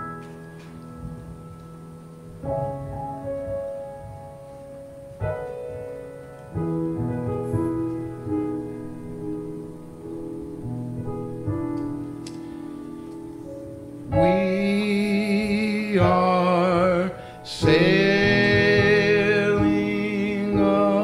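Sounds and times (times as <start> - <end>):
grand piano slow chords: 0.0 - 21.0.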